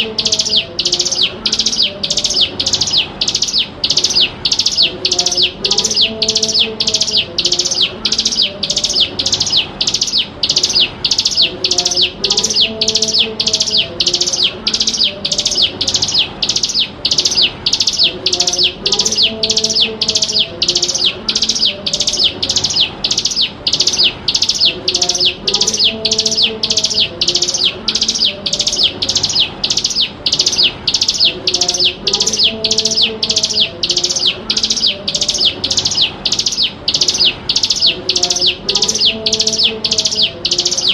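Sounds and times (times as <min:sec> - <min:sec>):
bird calling sharp high notes: 0:00.0 - 0:40.9.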